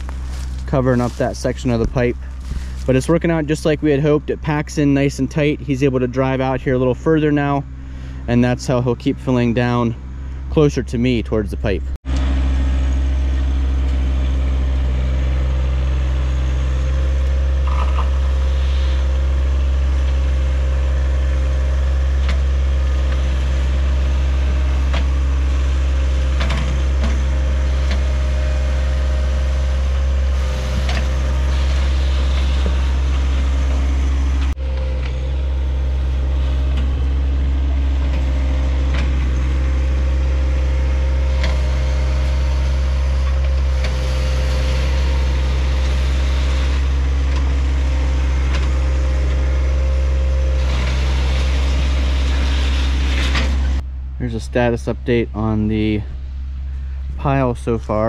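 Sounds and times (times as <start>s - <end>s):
engine whine: 0.0s - 58.0s
tractor diesel engine running: 0.0s - 58.0s.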